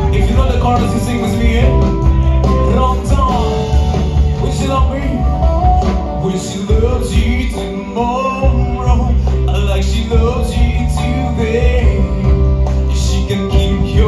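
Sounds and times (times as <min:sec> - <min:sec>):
live band music: 0:00.0 - 0:14.0
man singing: 0:00.0 - 0:14.0
steady bass line: 0:00.0 - 0:14.0.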